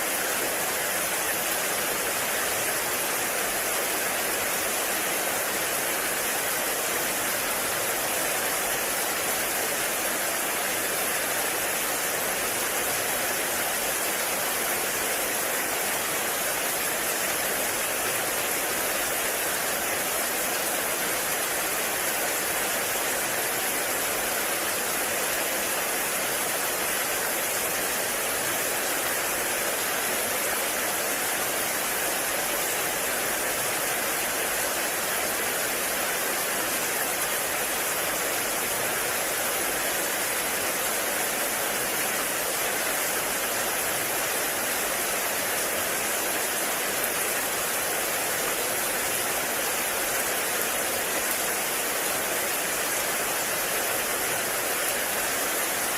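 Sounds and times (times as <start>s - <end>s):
heavy rain on forest: 0.0s - 55.9s.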